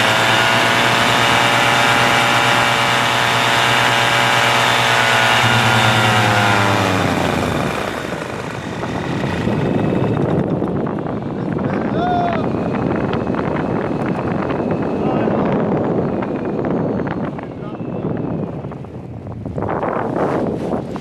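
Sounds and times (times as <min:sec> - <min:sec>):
engine running at high revs: 0:00.0 - 0:20.7.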